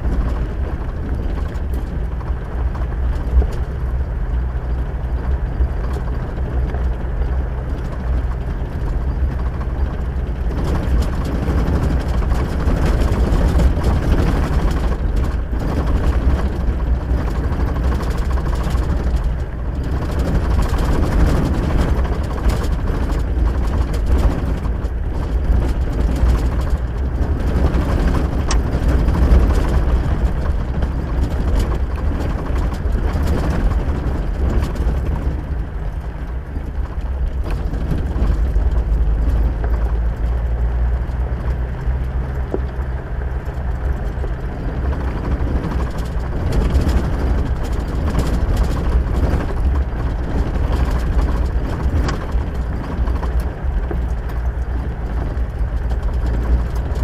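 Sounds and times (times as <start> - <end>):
vehicle driving on dirt road: 0.0 - 57.0.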